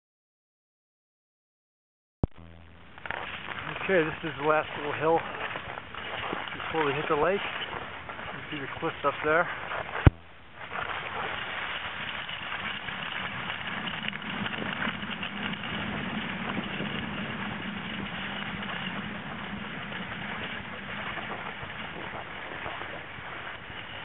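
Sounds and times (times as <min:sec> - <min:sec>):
skis sliding over snow: 0:02.9 - 0:24.0.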